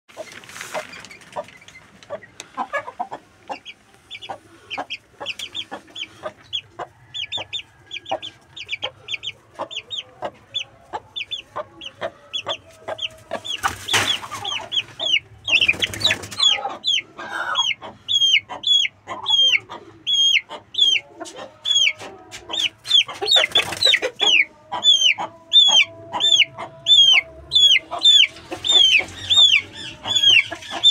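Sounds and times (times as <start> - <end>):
chick peeping: 0.1 - 30.9.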